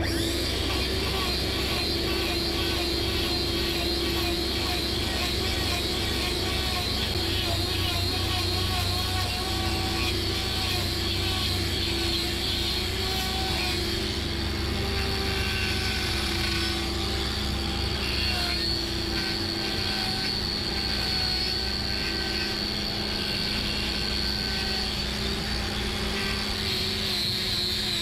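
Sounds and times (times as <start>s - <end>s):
angle grinder running: 0.0s - 28.0s.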